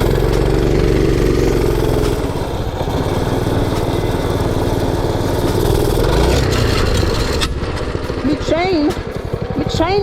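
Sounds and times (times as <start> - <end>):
mini bike engine throbbing: 0.0 - 10.0.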